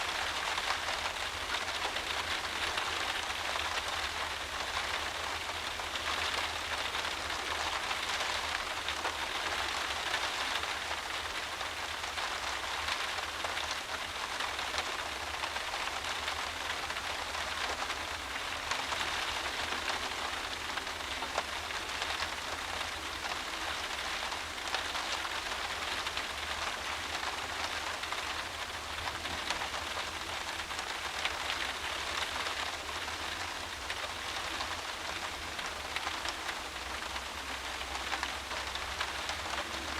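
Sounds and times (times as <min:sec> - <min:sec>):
rain beating on window glass: 0:00.0 - 0:39.9.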